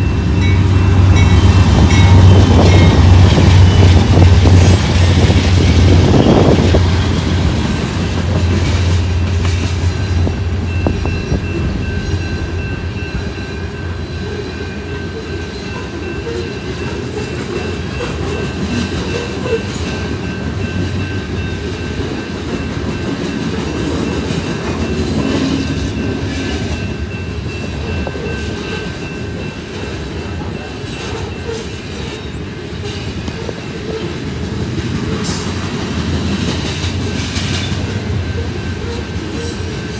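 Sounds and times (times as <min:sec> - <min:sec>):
deep locomotive engine rumble: 0:00.0 - 0:39.9
train wheels clacking on rails: 0:00.0 - 0:39.9.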